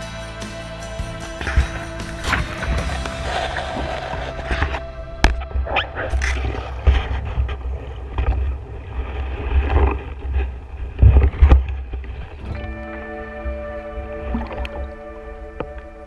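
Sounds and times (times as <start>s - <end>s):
low rumbling: 0.0s - 16.0s
water sloshing and bubbling: 1.0s - 16.0s.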